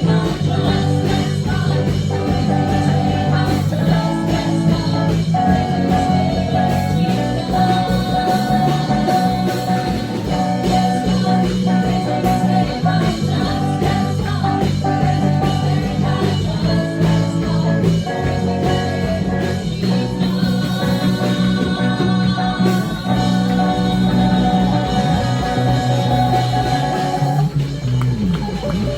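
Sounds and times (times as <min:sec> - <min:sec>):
person singing: 0:00.0 - 0:27.6
band music with electric guitar: 0:00.0 - 0:28.9.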